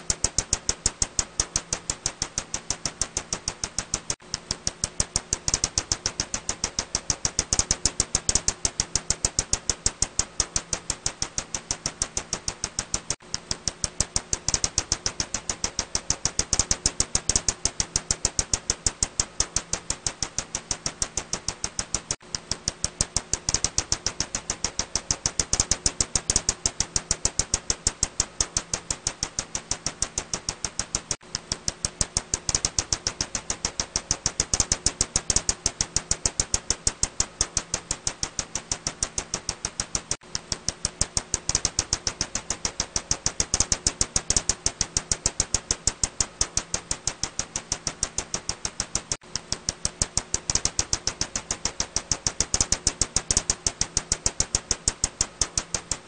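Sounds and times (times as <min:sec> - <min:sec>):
bat detector clicks: 0:00.0 - 0:56.0
faint steady hum: 0:00.0 - 0:56.0.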